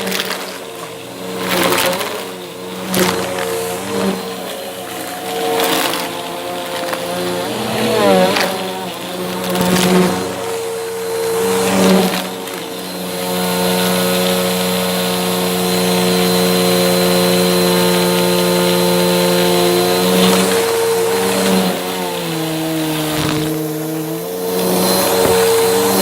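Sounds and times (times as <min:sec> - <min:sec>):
suction hiss: 0:00.0 - 0:26.0
vacuum cleaner motor humming: 0:00.0 - 0:26.0.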